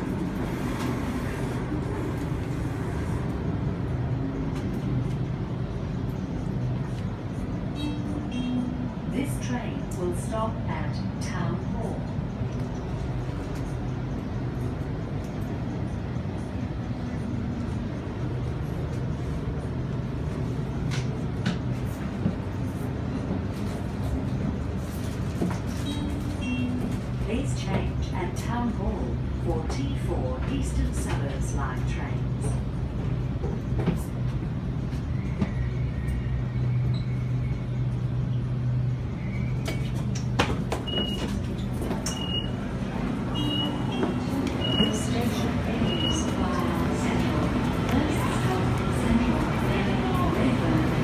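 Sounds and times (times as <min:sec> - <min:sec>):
electric train rumbling: 0:00.0 - 0:51.0.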